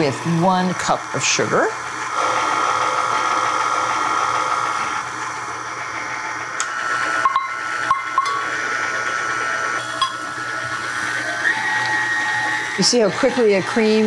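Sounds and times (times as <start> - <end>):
stand mixer motor whine: 0.0 - 14.0.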